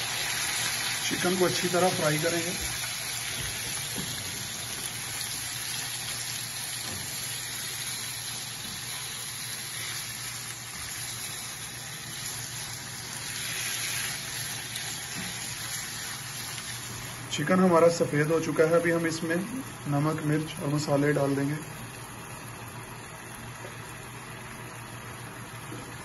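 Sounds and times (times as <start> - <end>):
chicken sizzling in hot oil: 0.0 - 26.0.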